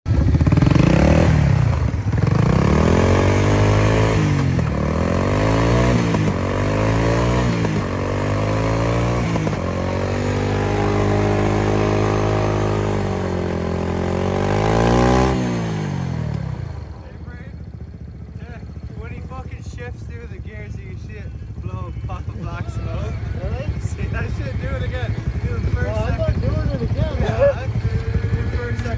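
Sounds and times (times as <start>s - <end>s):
atv engine revving: 0.1s - 28.9s.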